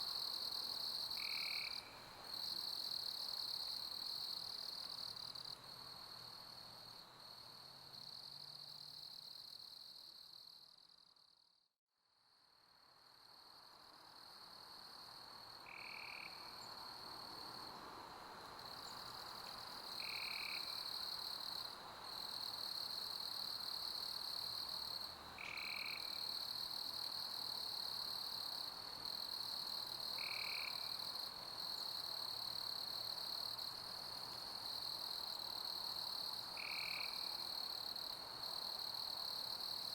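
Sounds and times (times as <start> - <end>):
crickets chirping: 0.0 - 11.0, 13.1 - 39.9.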